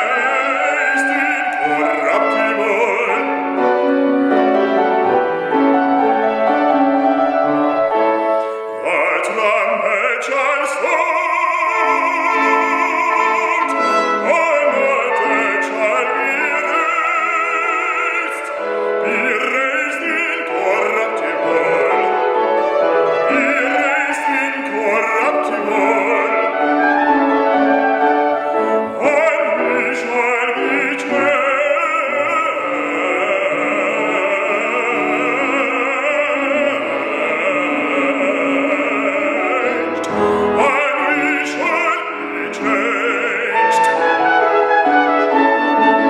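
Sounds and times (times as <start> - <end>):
piano accompaniment: 0.0 - 46.0.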